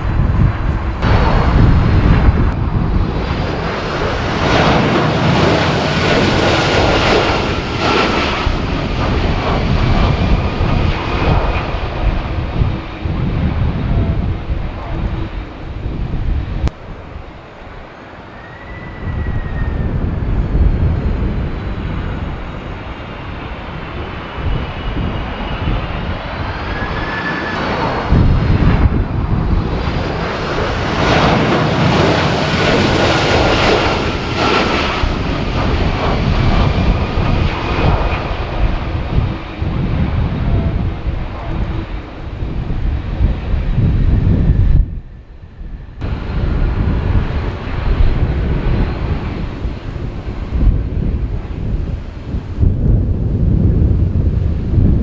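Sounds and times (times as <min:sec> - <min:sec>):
jet engines roaring: 0:00.0 - 0:55.0
wind buffeting microphone: 0:00.0 - 0:55.0.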